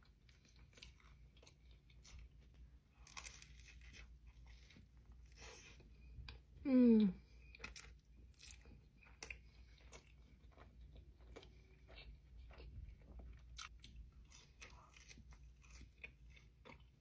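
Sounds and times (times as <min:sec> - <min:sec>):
chewing with small crunches: 0:00.0 - 0:17.0.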